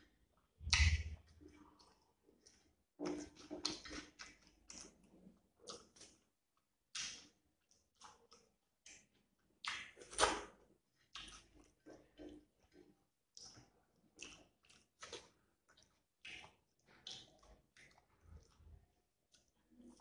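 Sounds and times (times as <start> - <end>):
person chewing: 0.6 - 6.3, 6.9 - 20.0.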